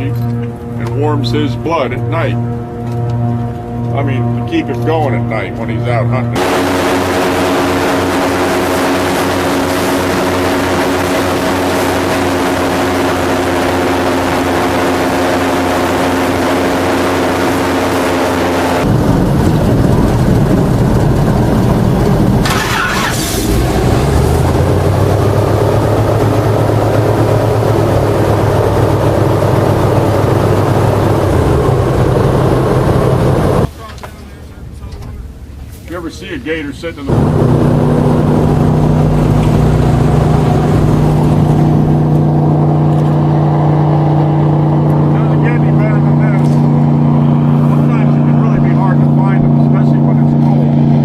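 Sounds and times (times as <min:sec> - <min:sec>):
airboat engine and propeller: 0:00.0 - 0:34.2, 0:36.9 - 0:51.0.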